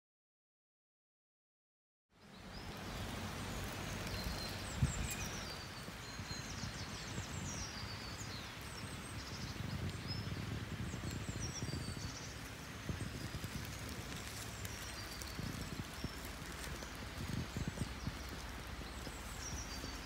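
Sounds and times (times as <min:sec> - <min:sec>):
small birds chirping: 0:02.2 - 0:20.0.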